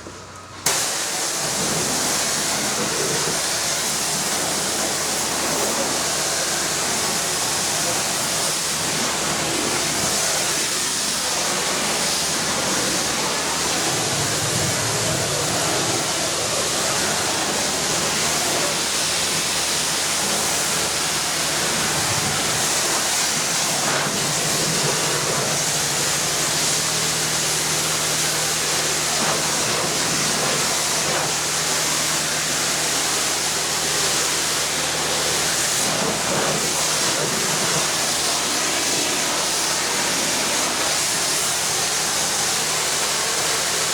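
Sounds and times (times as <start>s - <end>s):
motor and pump hum: 0.0s - 43.9s
pressure washer spraying water: 0.6s - 43.9s.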